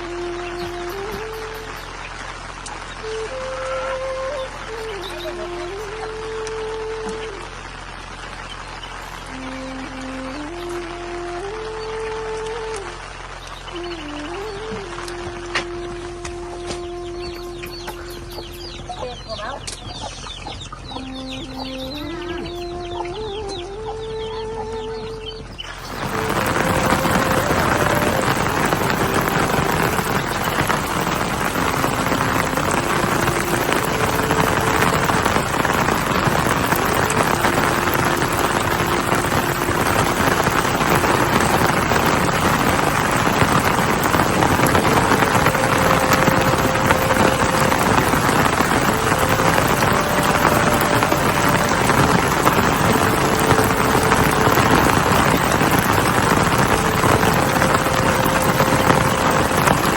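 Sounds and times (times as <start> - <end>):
heavy rain falling: 0.0 - 18.9, 20.2 - 23.4, 25.2 - 59.9.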